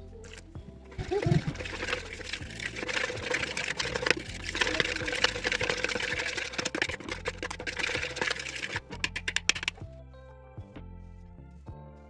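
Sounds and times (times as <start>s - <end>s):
utensil scraping a bowl: 0.0s - 9.8s.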